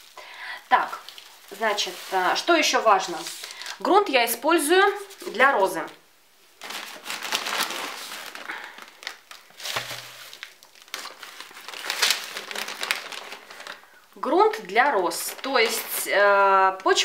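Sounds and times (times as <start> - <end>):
plastic bag crinkling: 0.0 - 3.9, 4.8 - 17.0.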